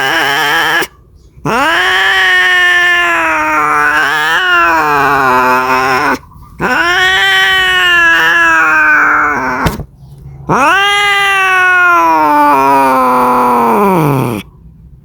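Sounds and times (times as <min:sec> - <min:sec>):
cat yowling: 0:00.0 - 0:09.9, 0:10.5 - 0:14.5.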